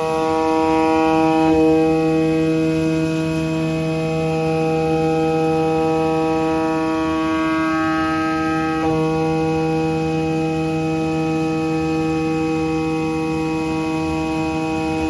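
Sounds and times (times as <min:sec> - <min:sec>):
cutting machine humming: 0:00.0 - 0:15.0.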